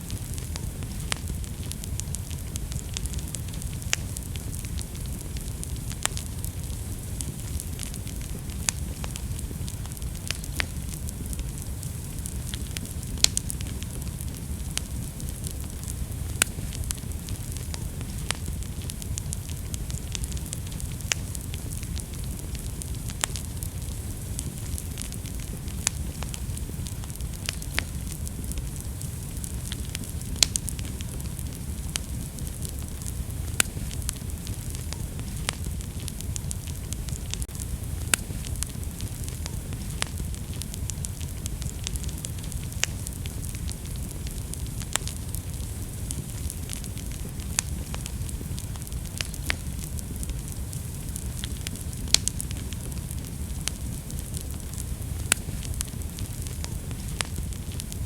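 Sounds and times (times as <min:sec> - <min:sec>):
fire crackles and pops: 0:00.0 - 0:58.0
wood fire rumble and hiss: 0:00.0 - 0:58.0.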